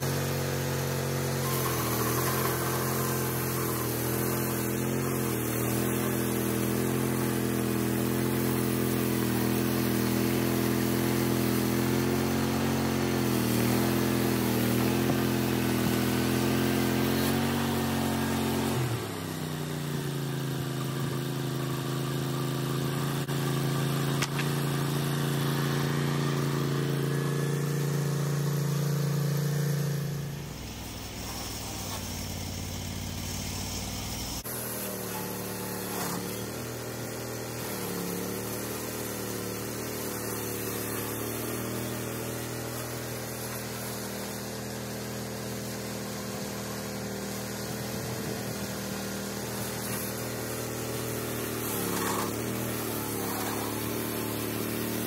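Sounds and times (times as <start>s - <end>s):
band blade sawing log: 0.0s - 55.0s
sawmill engine running under load: 0.0s - 55.0s.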